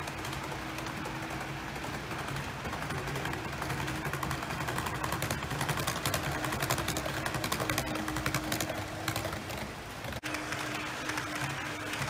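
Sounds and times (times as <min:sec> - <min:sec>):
model train wheels clicking: 0:00.0 - 0:12.0
motor hum: 0:00.0 - 0:12.0.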